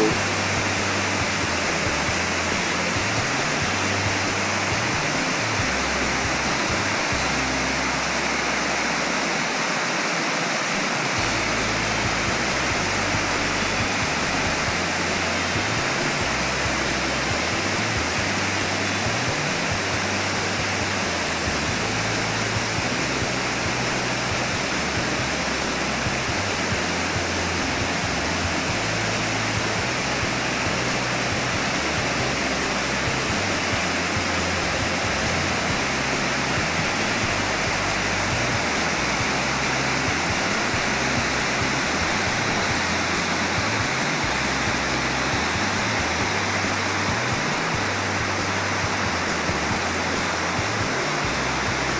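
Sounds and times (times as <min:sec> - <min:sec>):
low background music: 0:00.0 - 0:51.9
water rushing over rocks: 0:00.0 - 0:51.9.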